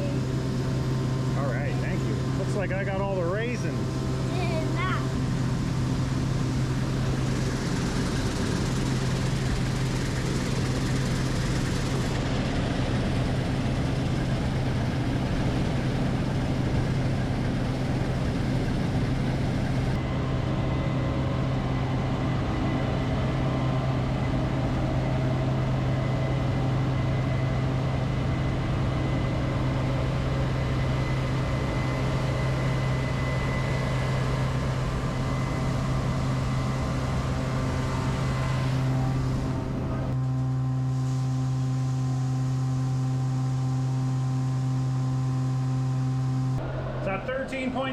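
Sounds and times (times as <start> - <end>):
farm machinery running: 0.0 - 47.9.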